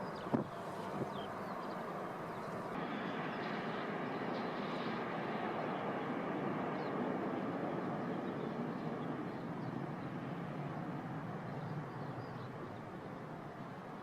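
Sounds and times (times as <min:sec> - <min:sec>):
airplane engines: 0:00.0 - 0:14.0.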